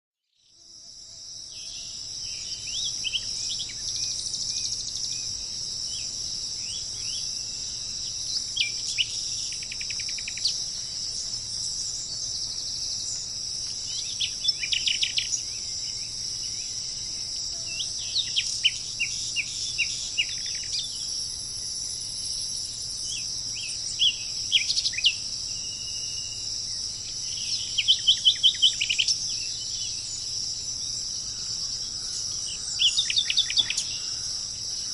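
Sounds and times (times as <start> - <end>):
insect chorus: 0.3 - 34.9
birds chirping and trilling: 1.5 - 34.9.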